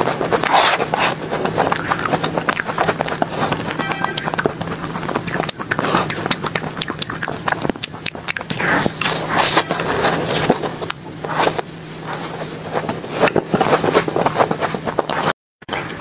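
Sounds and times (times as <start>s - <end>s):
person chewing with mouth smacks: 0.0s - 16.0s
person sucking ice cream: 0.0s - 16.0s.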